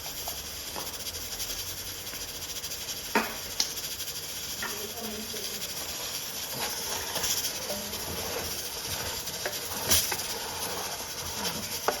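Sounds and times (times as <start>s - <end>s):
chicken and onion sizzling in pan: 0.0s - 12.0s.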